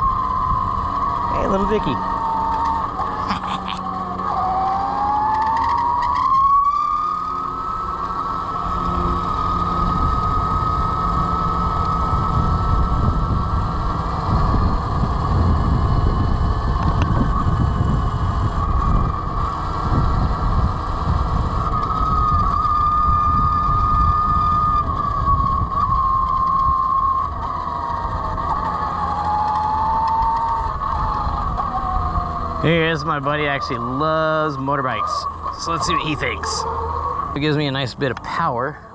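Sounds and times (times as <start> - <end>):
electric motor whine: 0.0 - 38.9
wind and road noise: 0.0 - 38.9.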